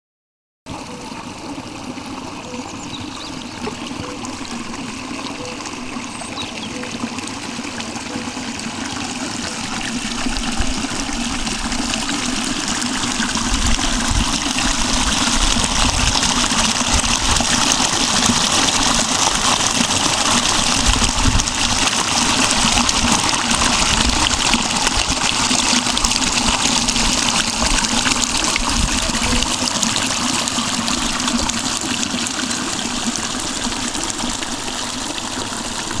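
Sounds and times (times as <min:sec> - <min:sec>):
stream running over stones: 0:00.7 - 0:36.0.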